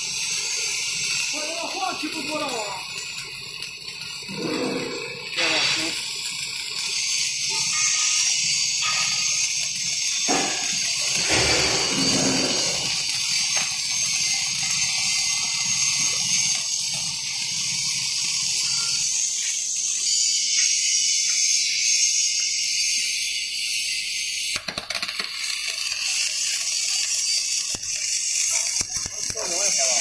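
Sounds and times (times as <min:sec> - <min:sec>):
welding arc hissing: 0:00.0 - 0:30.0.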